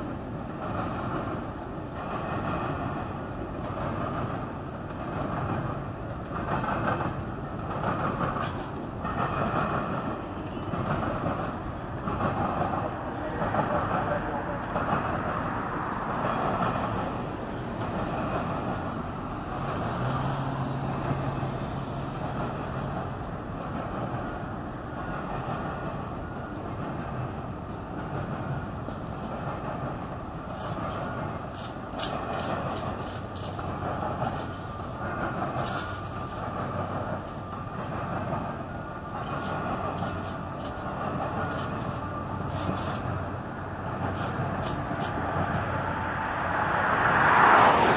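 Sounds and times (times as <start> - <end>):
freight train rumbling past: 0.0 - 47.9
wheels clacking over rail joints: 0.0 - 47.9.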